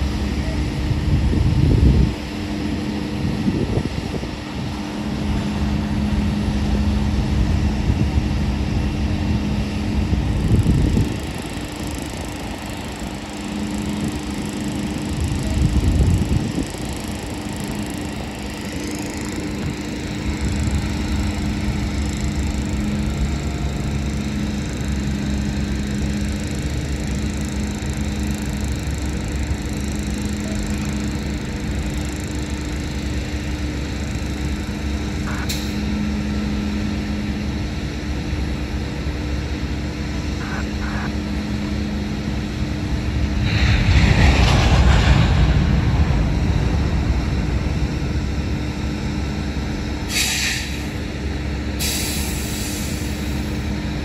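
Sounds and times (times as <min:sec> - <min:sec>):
steady hum: 0:00.0 - 0:54.0
train wheels rumbling on rail: 0:04.9 - 0:37.1, 0:42.1 - 0:54.0.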